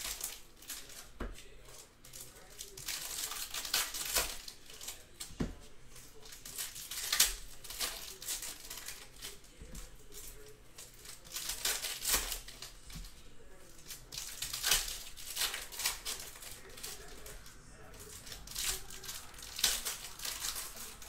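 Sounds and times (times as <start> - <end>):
foil wrappers crinkling and tearing: 0.0 - 21.0.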